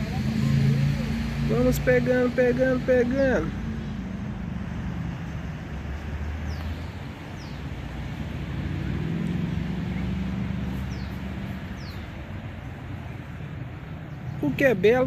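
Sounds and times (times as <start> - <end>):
distant vehicle engine drone: 0.0 - 15.0.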